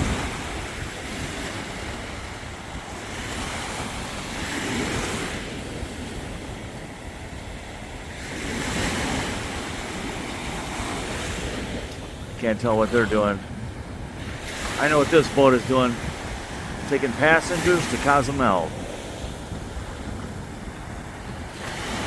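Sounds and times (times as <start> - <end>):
waves breaking on a beach: 0.0 - 22.0
wind buffeting microphone: 0.0 - 22.0.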